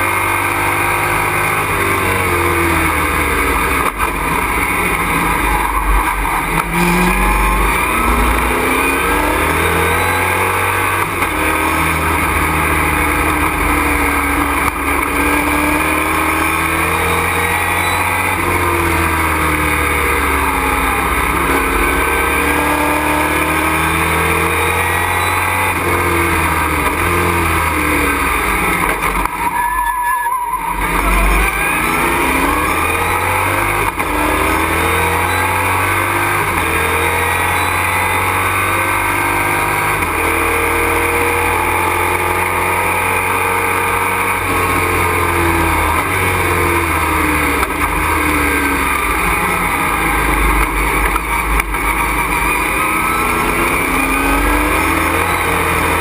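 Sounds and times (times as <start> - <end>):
race truck engine revving: 0.0 - 56.0.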